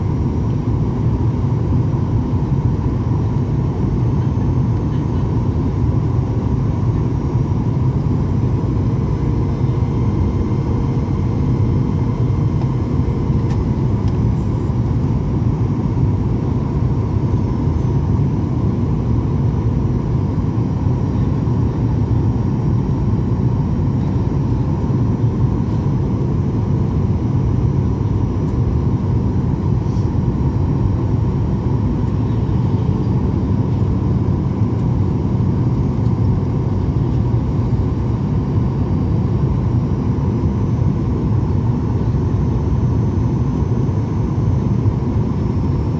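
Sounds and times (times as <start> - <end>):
aircraft engine rumble: 0.0 - 45.9.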